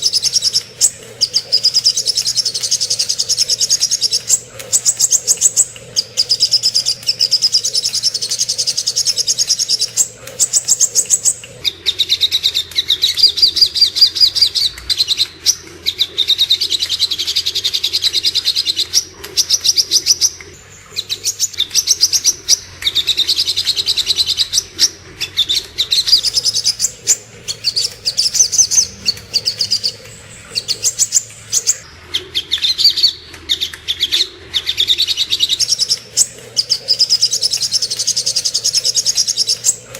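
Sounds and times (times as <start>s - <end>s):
bird high-pitched trills: 0.0s - 31.9s, 34.8s - 39.9s.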